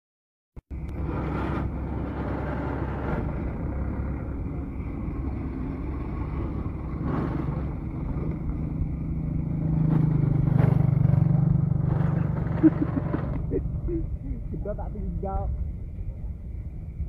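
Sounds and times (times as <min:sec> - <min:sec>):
deeper engine hum: 0:00.6 - 0:17.0
truck engine rumbling: 0:00.6 - 0:17.0.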